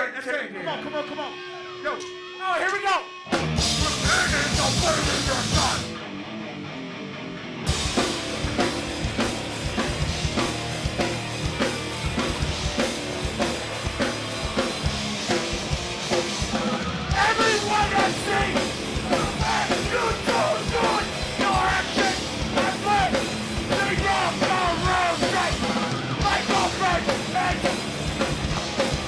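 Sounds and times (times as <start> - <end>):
hardcore band playing: 1.3 - 6.6, 7.4 - 29.0.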